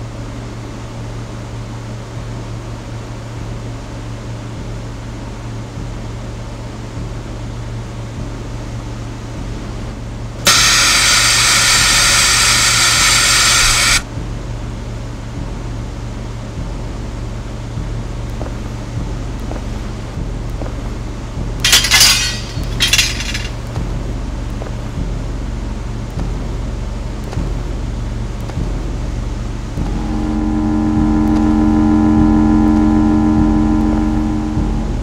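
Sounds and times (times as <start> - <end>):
low horror drone: 0.0 - 35.0.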